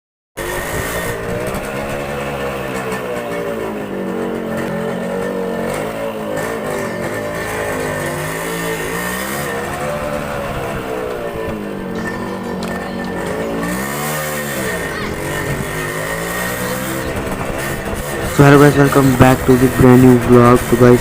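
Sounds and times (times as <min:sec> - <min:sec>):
motorcycle engine running: 0:00.4 - 0:21.0.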